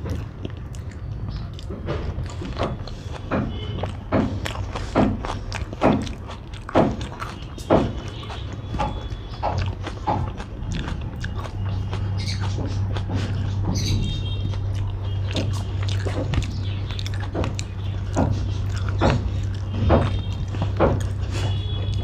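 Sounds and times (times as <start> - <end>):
steady low hum: 0.0 - 22.0
wet chewing and lip smacks: 0.0 - 22.0.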